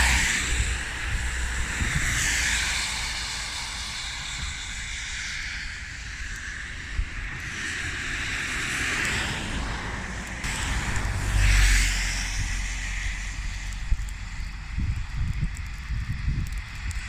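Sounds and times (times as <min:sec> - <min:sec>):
storm wind gusting: 0:00.0 - 0:17.0
wind buffeting microphone: 0:00.0 - 0:17.0.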